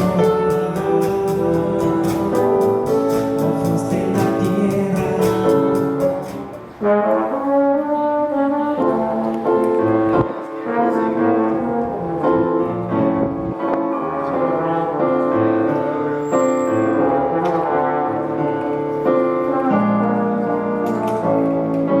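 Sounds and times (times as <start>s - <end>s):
brass instruments playing chords: 0.0s - 22.0s.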